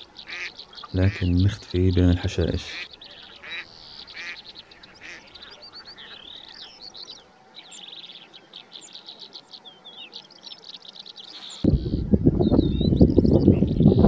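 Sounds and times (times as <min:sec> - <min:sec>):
low bird calls: 0:00.0 - 0:14.0
small birds chirping and trilling: 0:00.0 - 0:14.0.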